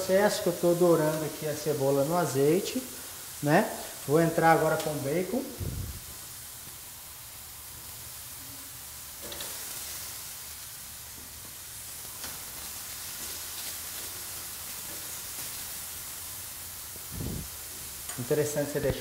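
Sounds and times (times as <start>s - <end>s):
bacon and onion sizzling: 0.0s - 19.0s.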